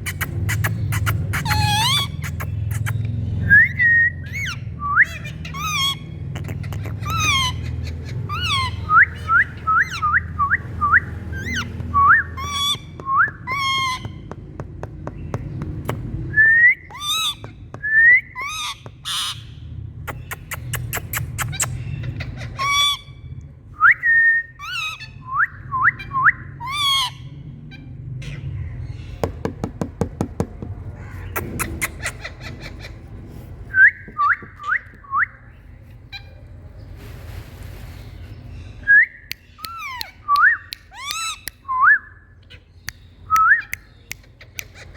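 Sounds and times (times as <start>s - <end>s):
parrots calling: 0.0s - 23.3s, 24.6s - 29.4s, 30.9s - 36.5s, 39.4s - 41.7s, 42.4s - 44.9s.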